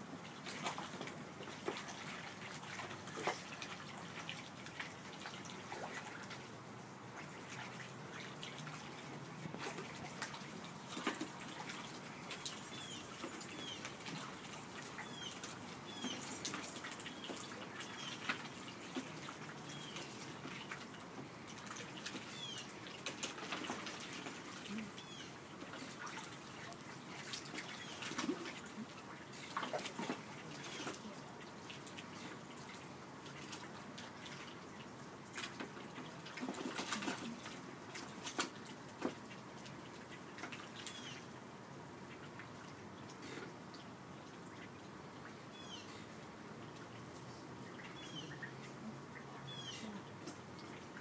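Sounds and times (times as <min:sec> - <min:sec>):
ducklings splashing in water: 0:00.0 - 0:51.0.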